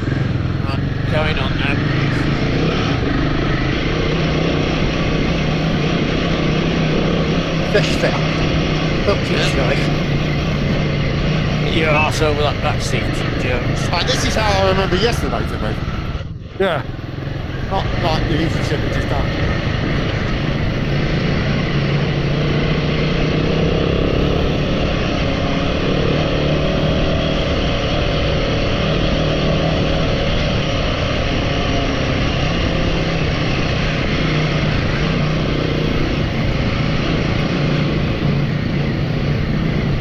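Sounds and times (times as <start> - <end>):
motorcycle engine humming: 0.0 - 40.0
rush of noise: 0.0 - 40.0.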